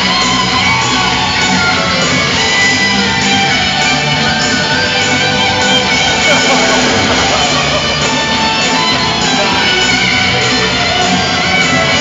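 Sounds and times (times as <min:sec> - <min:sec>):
loud electric guitar solo: 0:00.0 - 0:12.0.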